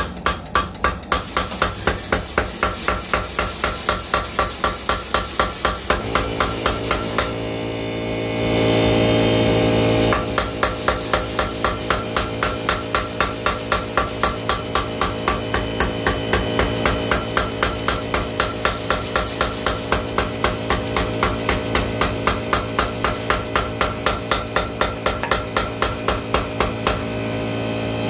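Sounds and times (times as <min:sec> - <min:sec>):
power hammer pounding steel: 0:00.0 - 0:07.7, 0:08.4 - 0:27.4
steady machine hum: 0:00.0 - 0:28.0.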